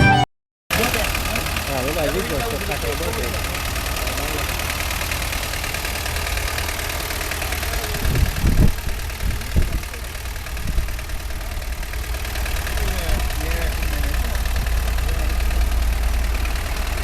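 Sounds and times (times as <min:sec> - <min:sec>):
engine idling: 0:00.7 - 0:17.0.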